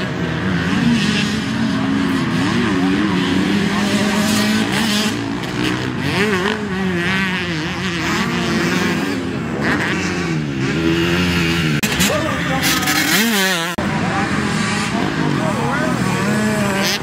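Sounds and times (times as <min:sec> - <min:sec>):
motocross bike engines racing: 0:00.0 - 0:17.0.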